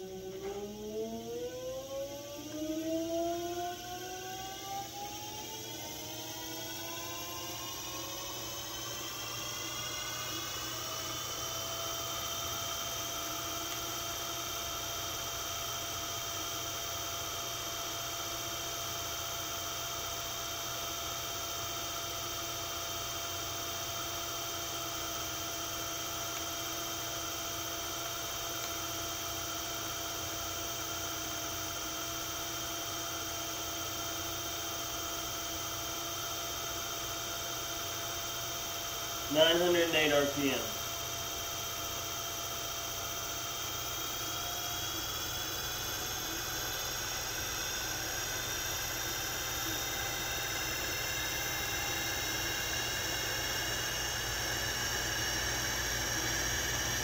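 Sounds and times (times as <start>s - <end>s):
electric motor whine: 0.0s - 57.0s.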